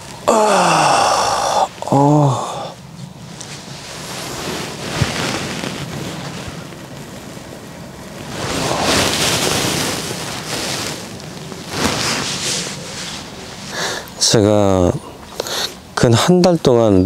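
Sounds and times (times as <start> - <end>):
wind gusting: 0.0 - 16.4.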